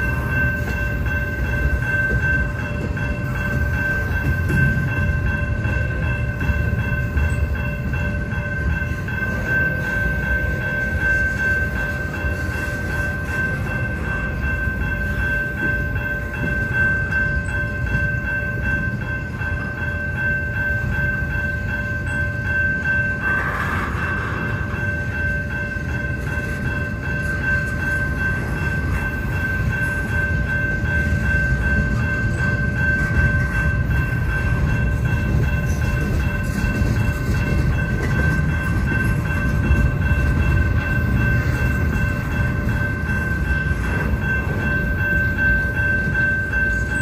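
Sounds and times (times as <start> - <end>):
steady high-pitched tone: 0.0 - 47.0
train wheels rumbling on rail: 0.0 - 47.0.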